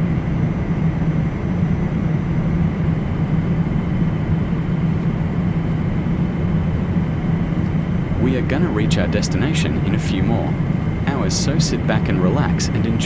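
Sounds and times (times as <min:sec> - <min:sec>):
faint steady whine: 0:00.0 - 0:13.0
low engine rumble in cabin: 0:00.0 - 0:13.0.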